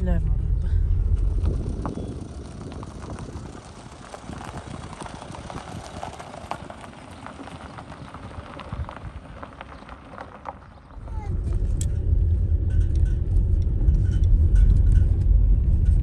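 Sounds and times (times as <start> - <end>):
tyres crunching on gravel: 0.0 - 15.5.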